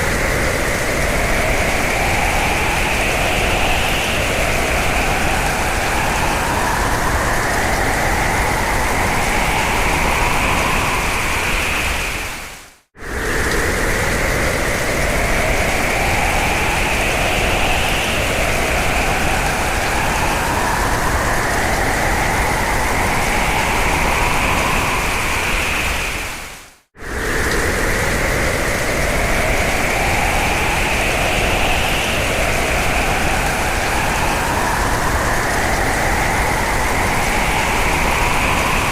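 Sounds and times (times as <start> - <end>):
howling storm wind: 0.0 - 38.9.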